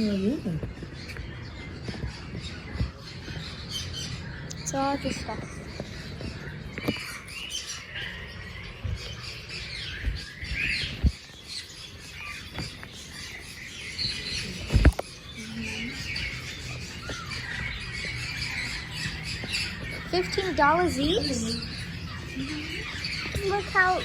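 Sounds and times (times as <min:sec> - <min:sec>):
caged birds chirping and squawking: 0:00.0 - 0:24.0.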